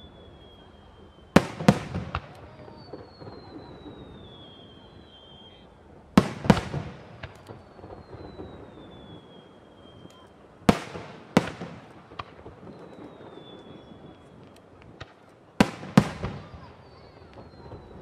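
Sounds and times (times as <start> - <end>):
falling firework whistles: 0.0 - 18.0
small firework pops: 1.3 - 5.4, 6.2 - 18.0.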